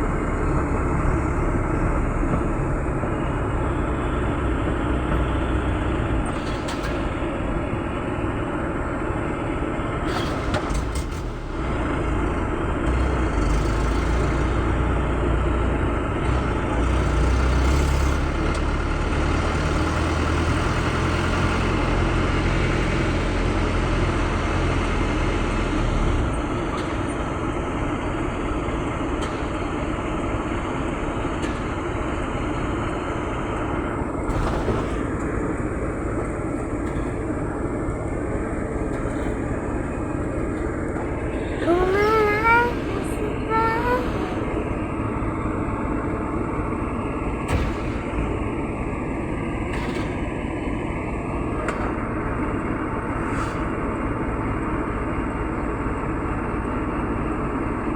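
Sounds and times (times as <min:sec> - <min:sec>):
truck engine and road noise: 0:00.0 - 0:57.9.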